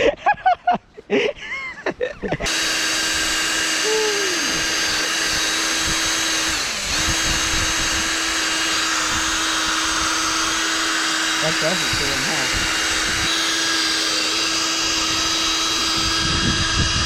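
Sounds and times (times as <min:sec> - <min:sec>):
power drill buffing plastic: 0:02.4 - 0:17.0.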